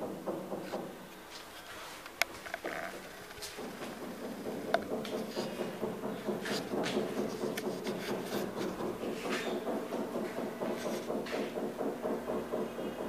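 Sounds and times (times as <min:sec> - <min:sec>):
footsteps: 0:01.3 - 0:12.2
sharp clicks and knocks: 0:02.1 - 0:13.0.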